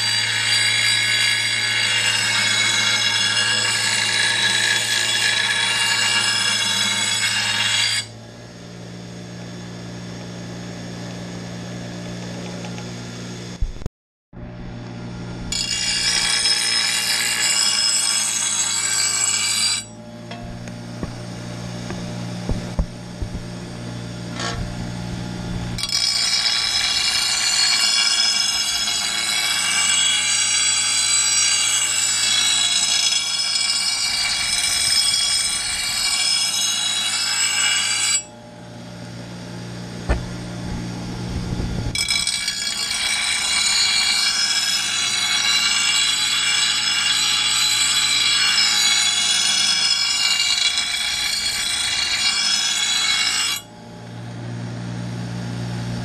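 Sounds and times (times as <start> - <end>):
grinder screeching on steel: 0.0 - 10.1, 15.3 - 53.8
grinder motor humming: 0.0 - 56.0.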